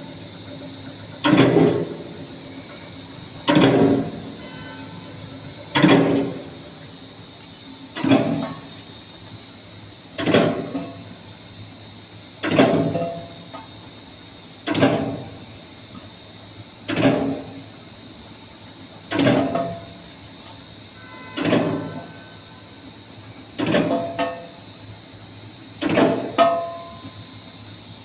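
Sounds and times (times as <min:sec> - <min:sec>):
machine high whine: 0:00.0 - 0:28.0.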